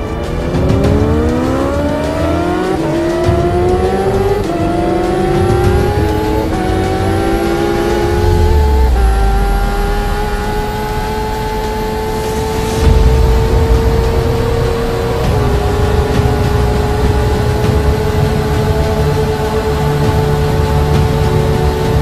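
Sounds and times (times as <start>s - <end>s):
gear upshifts: 0.0s - 22.0s
motorcycle engine at full throttle: 0.0s - 22.0s
wind rushing: 0.0s - 22.0s.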